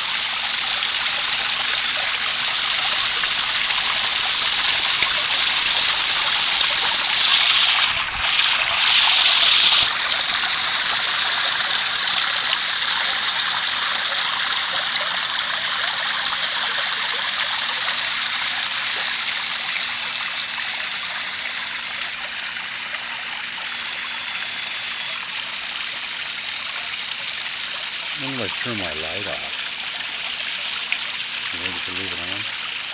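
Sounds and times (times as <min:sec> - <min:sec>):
water running: 0:00.0 - 0:32.9.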